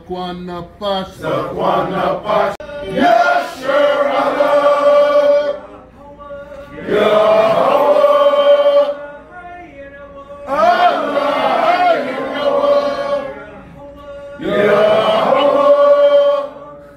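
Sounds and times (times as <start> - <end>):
congregation singing a chant: 1.1 - 16.9.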